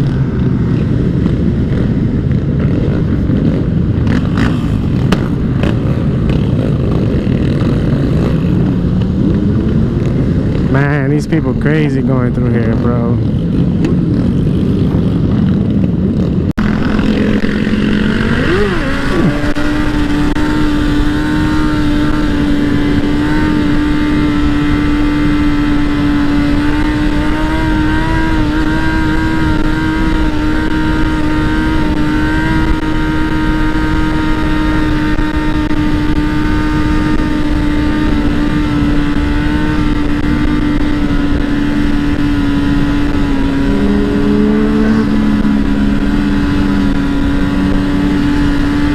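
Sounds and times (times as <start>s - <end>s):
heavy low rushing noise: 0.0s - 33.8s, 34.6s - 48.9s
dirt bike engine running: 0.0s - 48.9s.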